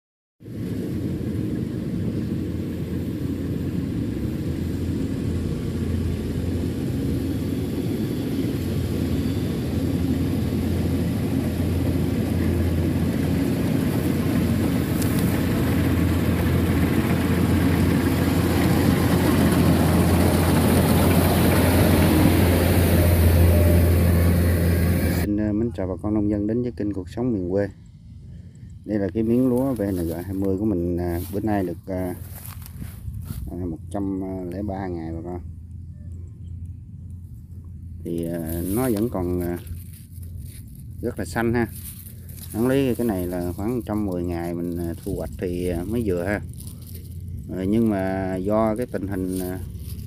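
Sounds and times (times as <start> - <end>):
harvester engine droning: 0.5 - 50.0.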